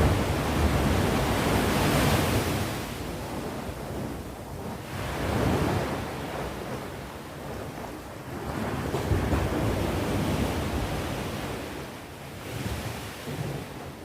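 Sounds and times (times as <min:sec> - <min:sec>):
ocean waves washing ashore: 0:00.0 - 0:14.0
wind rumble on microphone: 0:00.0 - 0:14.0.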